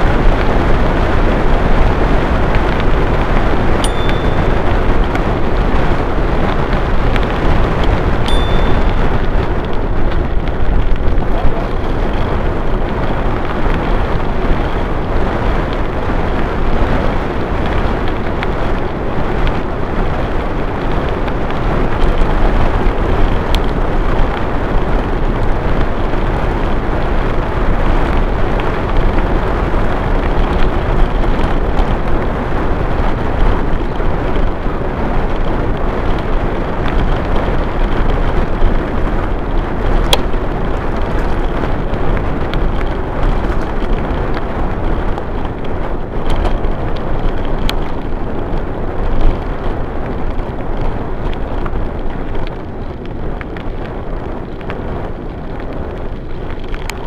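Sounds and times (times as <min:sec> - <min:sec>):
bicycle tyres rolling on gravel: 0:00.0 - 0:57.0
wind buffeting microphone: 0:00.0 - 0:57.0.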